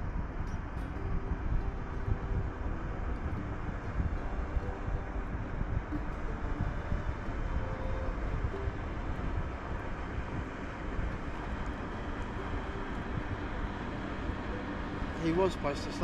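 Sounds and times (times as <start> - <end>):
faint steady drone: 0.0 - 16.0
wind buffeting microphone: 0.0 - 16.0.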